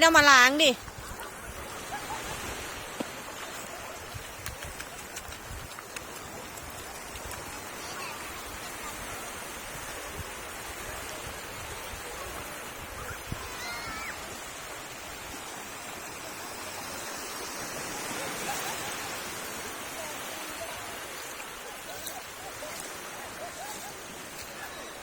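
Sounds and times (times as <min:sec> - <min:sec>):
sea surf washing on shore: 0:00.0 - 0:25.0.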